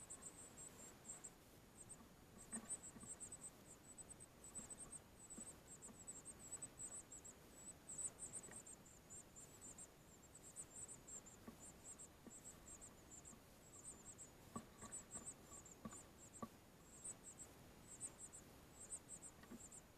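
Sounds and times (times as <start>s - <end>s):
high-pitched insect chirping: 0.0s - 19.9s.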